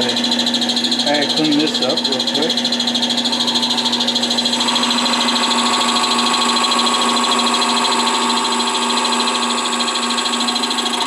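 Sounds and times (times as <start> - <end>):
gouge cutting spinning wood: 0.0 - 11.0
wood lathe running: 0.0 - 11.0.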